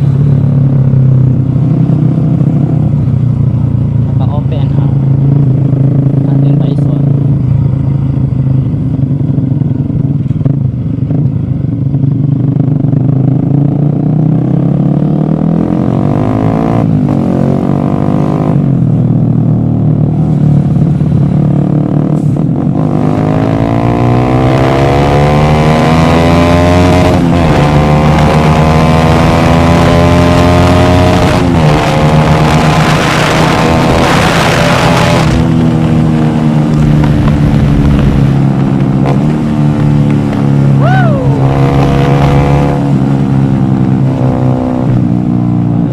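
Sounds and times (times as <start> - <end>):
vehicle engine accelerating: 3.8 - 45.9.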